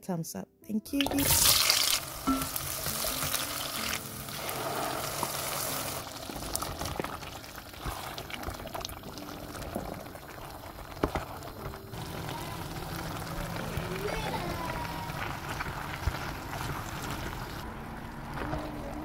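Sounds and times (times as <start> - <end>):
onions sizzling in oil: 1.0 - 17.6
sauce bubbling: 1.0 - 17.7.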